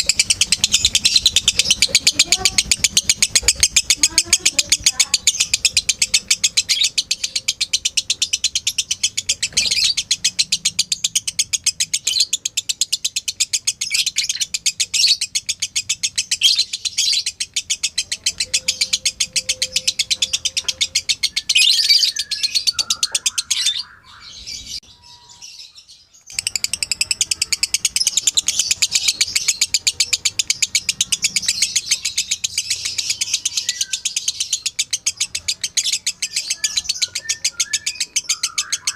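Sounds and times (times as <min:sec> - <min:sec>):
lovebird chirping trill: 0:00.0 - 0:38.9.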